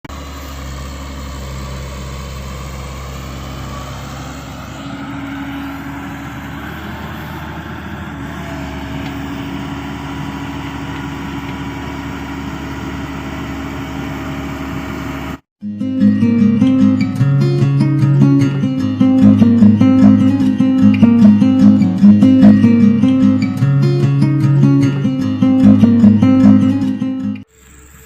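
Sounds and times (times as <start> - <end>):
engine droning: 0.1 - 15.5, 16.1 - 28.0.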